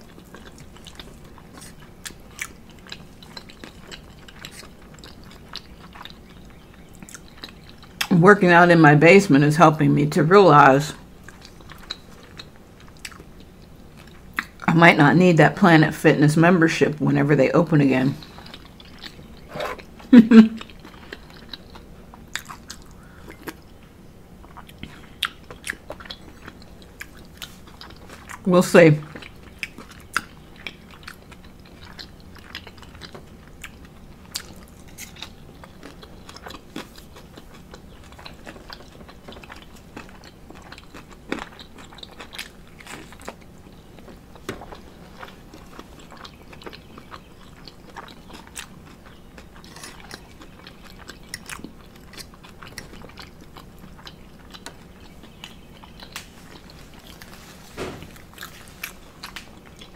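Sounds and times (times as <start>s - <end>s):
person chewing food: 0.0s - 8.1s, 11.0s - 14.7s, 18.1s - 28.5s, 29.1s - 59.9s.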